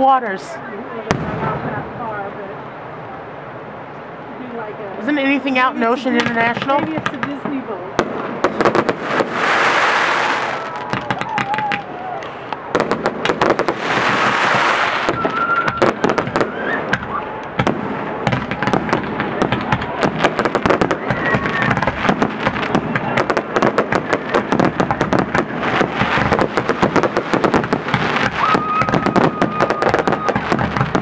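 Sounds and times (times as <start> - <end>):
fireworks bangs and crackles: 0.0 - 2.5, 4.7 - 31.0.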